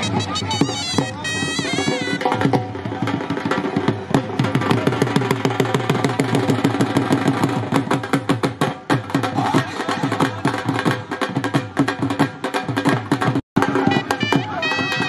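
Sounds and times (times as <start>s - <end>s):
drum beaten fast: 0.0s - 15.0s.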